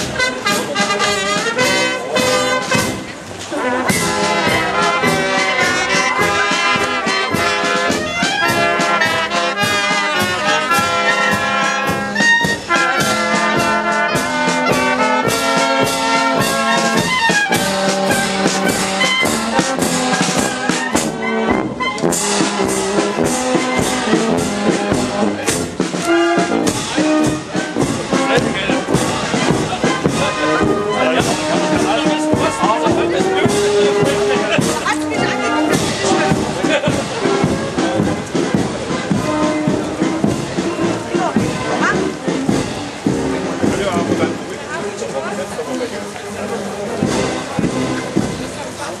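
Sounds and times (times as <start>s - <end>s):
marching brass band playing: 0.0s - 49.0s.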